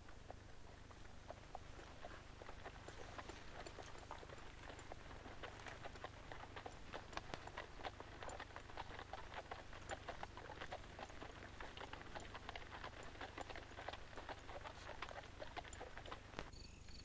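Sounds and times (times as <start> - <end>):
hooves clopping on stony ground: 0.0 - 16.5.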